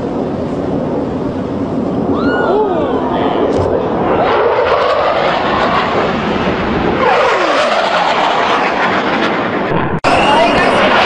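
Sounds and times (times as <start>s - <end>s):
fighter jet engine roar: 0.0s - 11.0s
jet whine falling in pitch: 2.0s - 11.0s.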